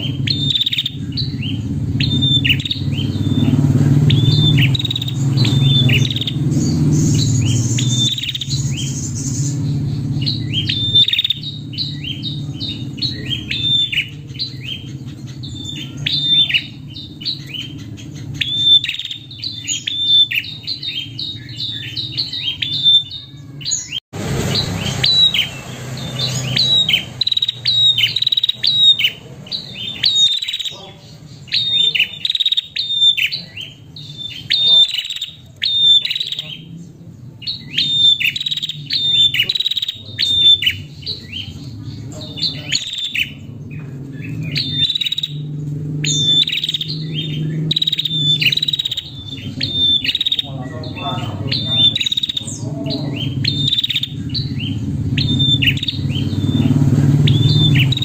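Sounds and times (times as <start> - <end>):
bird chirping rapidly: 0.0 - 58.0.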